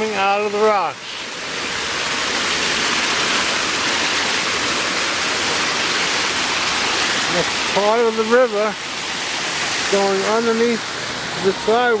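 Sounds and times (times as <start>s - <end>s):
waterfall splashing: 0.0s - 12.0s.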